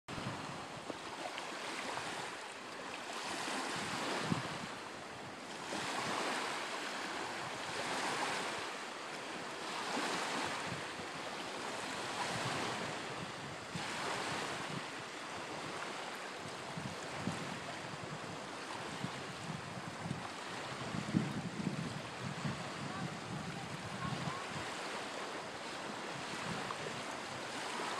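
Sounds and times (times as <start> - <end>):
small waves washing ashore: 0.1 - 27.9
wind: 0.1 - 27.9.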